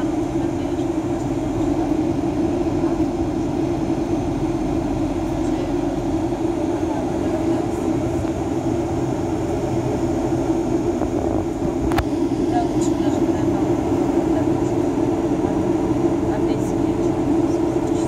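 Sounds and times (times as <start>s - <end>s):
airplane cabin drone: 0.0s - 18.0s.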